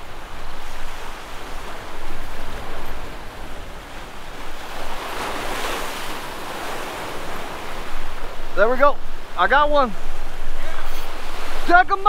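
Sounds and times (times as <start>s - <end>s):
ocean surf washing against rocks: 0.0s - 12.0s.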